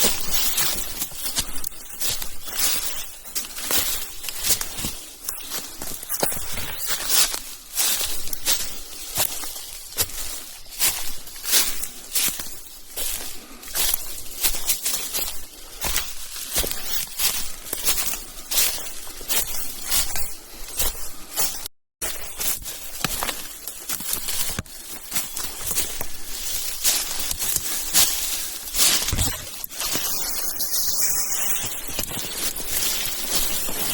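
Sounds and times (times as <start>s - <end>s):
footsteps scuffing on forest trail: 0.0s - 33.9s.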